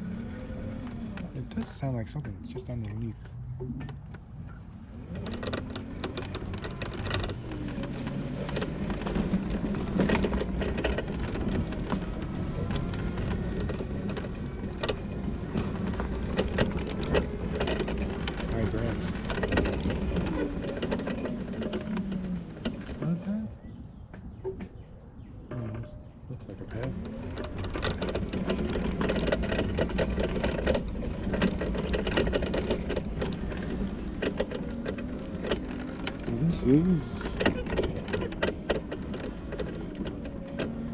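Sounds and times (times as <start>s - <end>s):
mobility scooter whirring and clicking: 0.0s - 1.9s, 3.8s - 24.9s, 26.5s - 40.9s
buggy drive hum: 0.0s - 40.9s.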